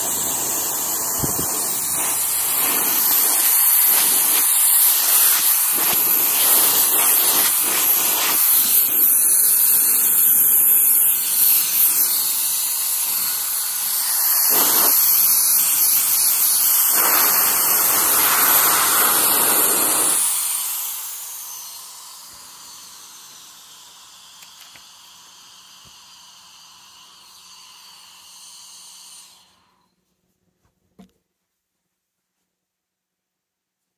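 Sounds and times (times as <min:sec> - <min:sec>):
electric air blower whining: 0:00.0 - 0:29.9.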